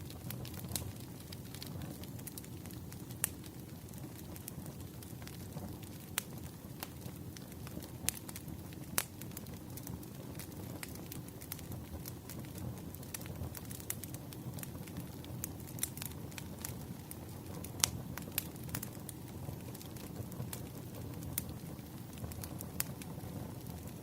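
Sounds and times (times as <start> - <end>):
fire crackling and popping: 0.0 - 24.0
wood fire rumbling: 0.0 - 24.0.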